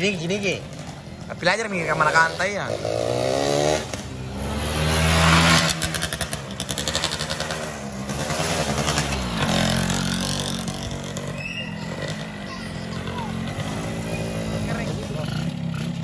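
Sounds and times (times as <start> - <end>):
racing motorcycle revving: 0.0 - 16.0.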